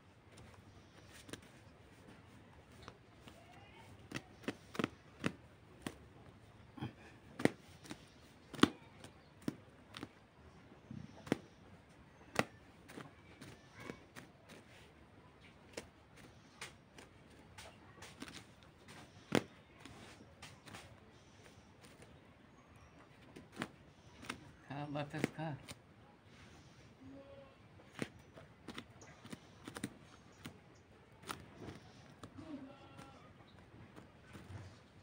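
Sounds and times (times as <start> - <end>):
chickens pecking: 0.0 - 27.0, 27.7 - 35.0.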